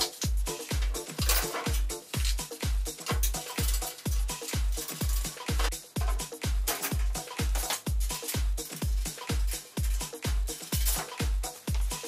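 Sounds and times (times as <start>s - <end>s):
electronic dance music: 0.0s - 12.0s
kick drum: 0.0s - 12.0s.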